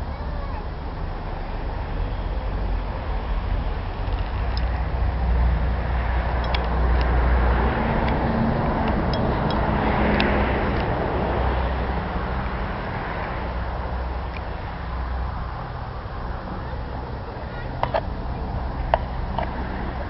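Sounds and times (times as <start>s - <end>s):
propeller aircraft droning: 0.0s - 20.0s.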